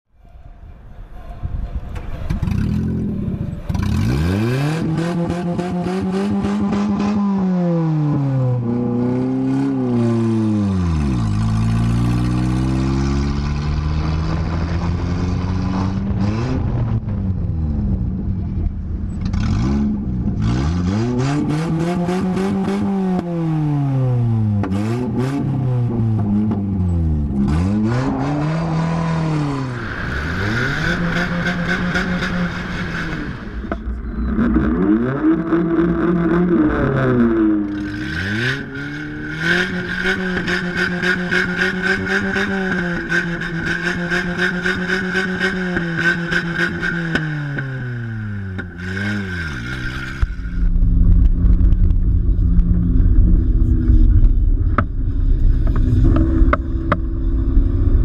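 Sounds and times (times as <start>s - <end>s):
car engine revving: 1.9s - 58.0s.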